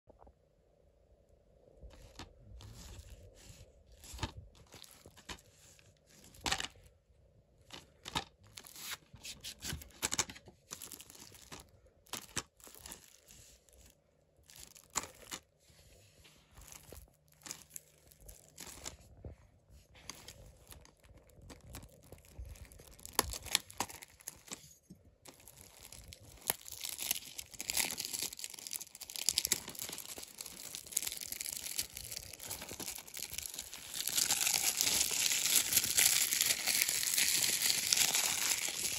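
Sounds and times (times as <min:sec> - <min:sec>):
plastic shrink wrap crinkling: 0:01.9 - 0:06.9, 0:07.6 - 0:15.6, 0:16.4 - 0:38.9.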